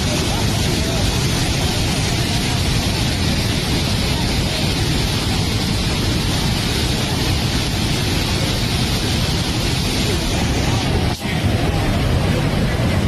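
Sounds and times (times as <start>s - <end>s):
storm rushing noise: 0.0s - 13.0s.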